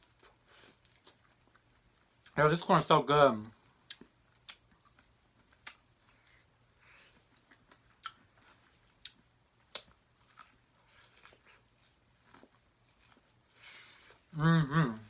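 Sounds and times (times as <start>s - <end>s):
chewing corn on the cob: 0.0s - 2.4s, 3.8s - 14.4s.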